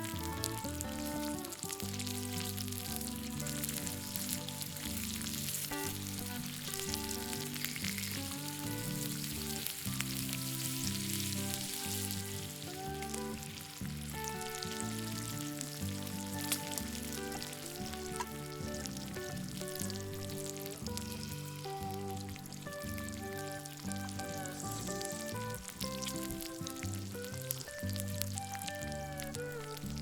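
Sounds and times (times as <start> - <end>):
meat sizzling on griddle: 0.0 - 29.8
background music: 0.0 - 30.0.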